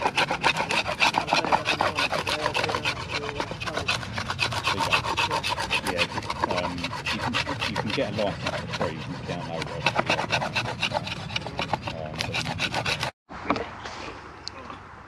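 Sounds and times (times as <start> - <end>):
knife scraping bark off stick: 0.0 - 13.1.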